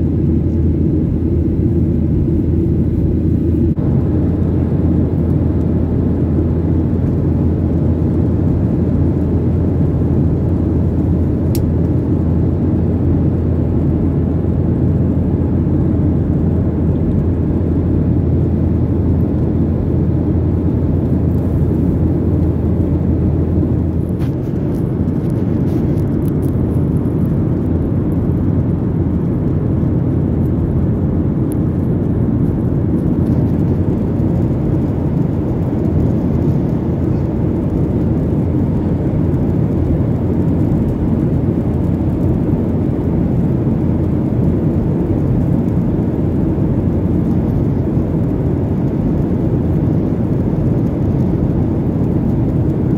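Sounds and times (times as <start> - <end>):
jet cabin engine rumble: 0.0 - 52.9
low hum: 0.0 - 52.9.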